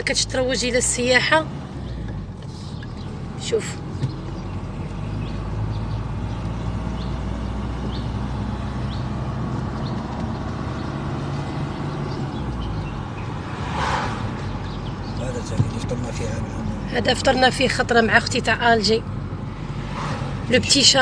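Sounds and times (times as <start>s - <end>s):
car engine hum: 0.0s - 21.0s
road noise: 0.0s - 21.0s.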